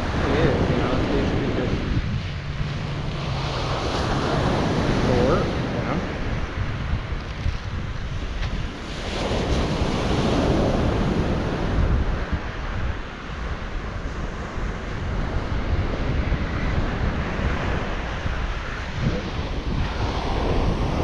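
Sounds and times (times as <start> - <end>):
ocean surf breaking on beach: 0.0 - 21.0
wind buffeting microphone: 0.0 - 21.0.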